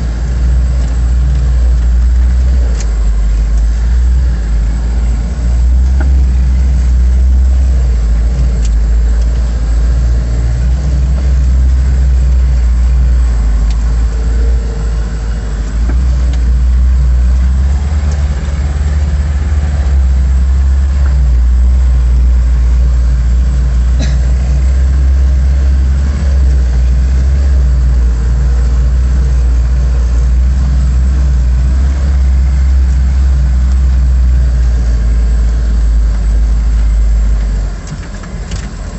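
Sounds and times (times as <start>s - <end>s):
petrol engine droning steadily: 0.0s - 38.9s.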